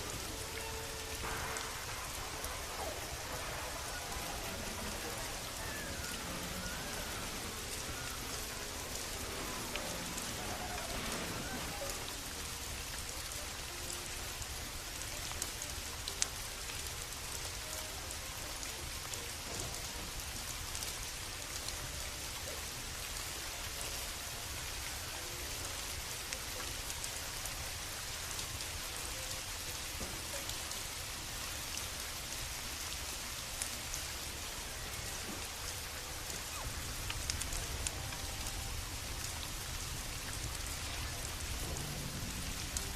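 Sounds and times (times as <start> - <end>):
rain pattering on surfaces: 0.0 - 42.9.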